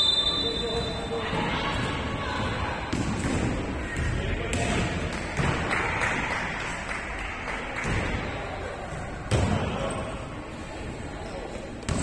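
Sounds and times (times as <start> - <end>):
crowd voices: 0.0 - 12.0.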